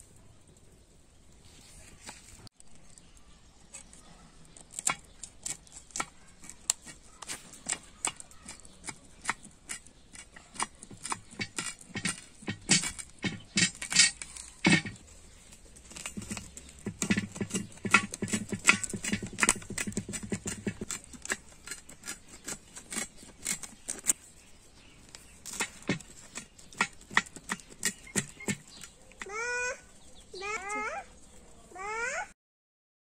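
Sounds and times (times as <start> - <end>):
pizza cutter crunching crust: 1.8 - 29.3.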